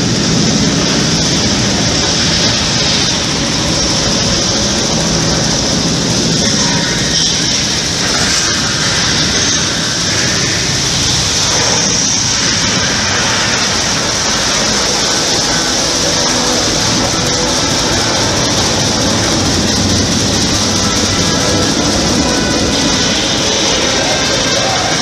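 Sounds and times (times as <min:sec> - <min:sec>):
rocket roar through speakers: 0:00.0 - 0:25.0.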